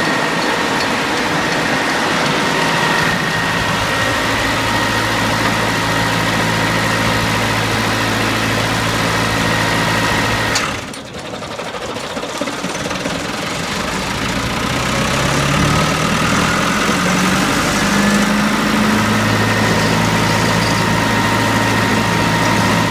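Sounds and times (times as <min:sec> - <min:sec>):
wood chipper engine running: 0:00.0 - 0:22.9.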